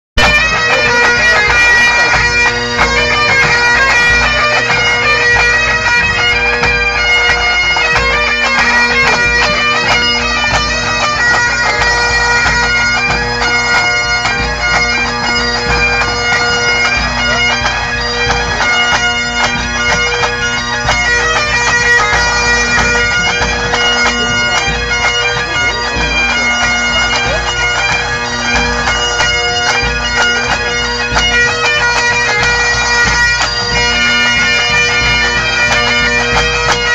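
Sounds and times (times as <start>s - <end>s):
bagpipes playing: 0.2s - 36.9s.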